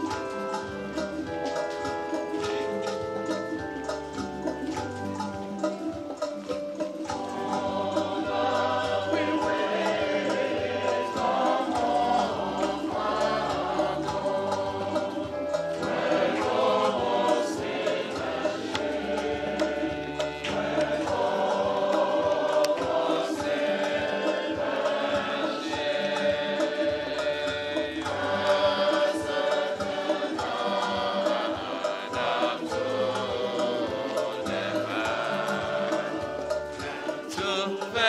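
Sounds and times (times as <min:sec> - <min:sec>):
choir singing a hymn: 0:00.0 - 0:38.0.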